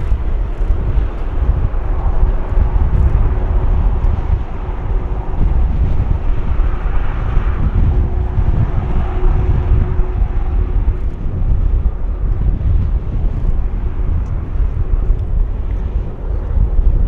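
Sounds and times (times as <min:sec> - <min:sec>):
jet engines rumbling and roaring: 0:00.0 - 0:17.0.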